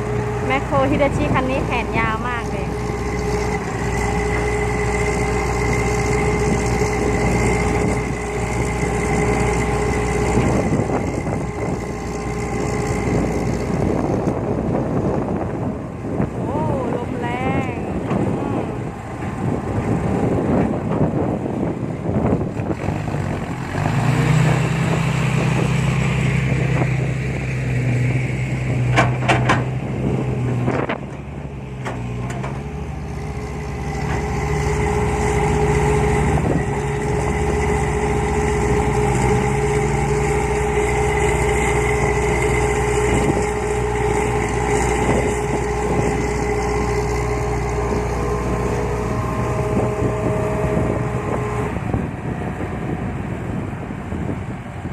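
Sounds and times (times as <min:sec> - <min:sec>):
excavator diesel engine: 0:00.0 - 0:54.9
wind buffeting microphone: 0:00.0 - 0:54.9.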